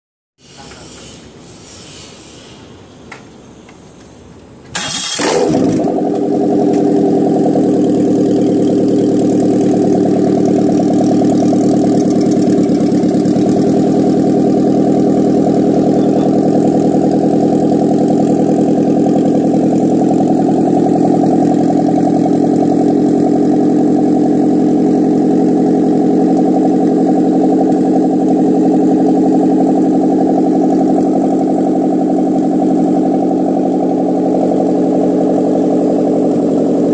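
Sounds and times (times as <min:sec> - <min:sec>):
car engine starting and idling: 0:04.0 - 0:36.9.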